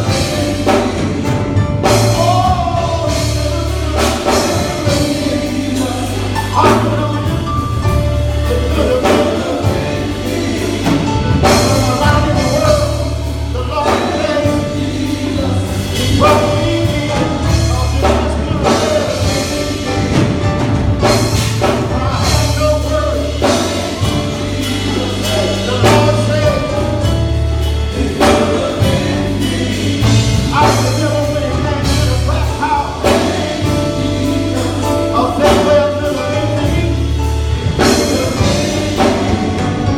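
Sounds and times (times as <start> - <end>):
drums: 0.0 - 39.9
gospel singing over a band: 0.0 - 39.9
heavy pulsing bass line: 0.0 - 39.9.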